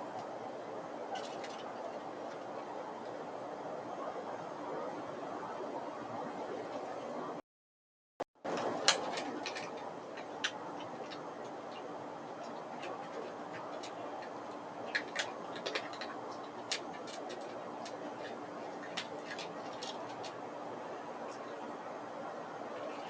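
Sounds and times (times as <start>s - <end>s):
low background hum: 0.0s - 7.4s, 8.4s - 23.0s.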